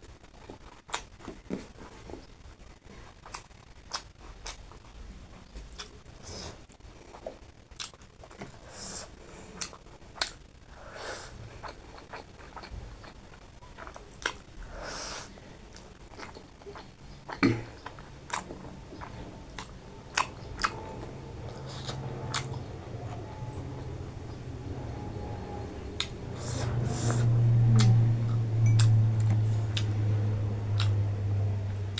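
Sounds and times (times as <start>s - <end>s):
person chewing food: 0.4s - 10.4s, 11.0s - 31.9s
low steady hum: 4.2s - 31.9s.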